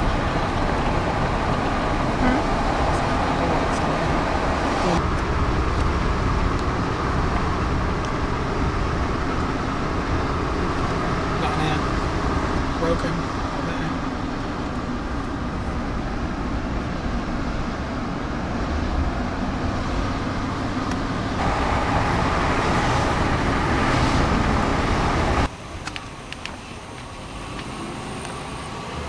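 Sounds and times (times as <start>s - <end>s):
car cabin road and engine noise: 0.0s - 29.0s.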